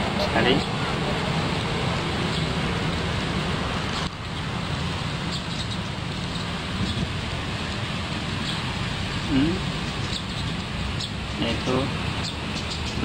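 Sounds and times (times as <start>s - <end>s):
outdoor background hiss and rumble: 0.0s - 13.0s.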